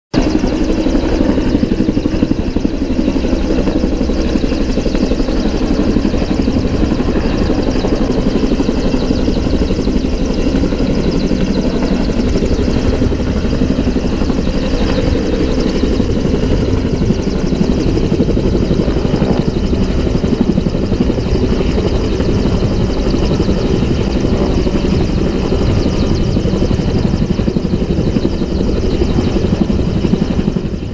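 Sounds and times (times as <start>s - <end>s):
turbine noise: 0.2s - 30.9s.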